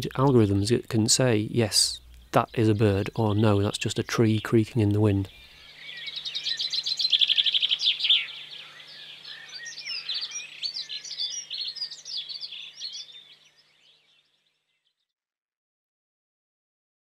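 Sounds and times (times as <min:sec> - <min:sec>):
songbirds singing: 0:00.0 - 0:15.1.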